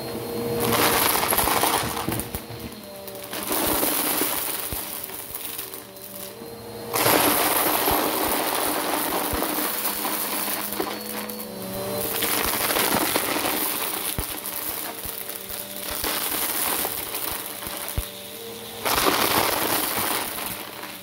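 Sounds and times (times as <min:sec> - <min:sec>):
vacuum motor hum: 0:00.0 - 0:21.0
debris crunching in vacuum: 0:00.5 - 0:21.0.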